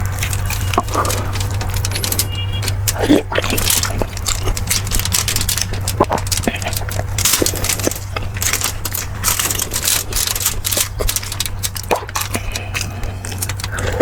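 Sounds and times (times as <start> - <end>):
steady low hum: 0.0 - 14.0
wet chewing and crunching: 0.0 - 14.0.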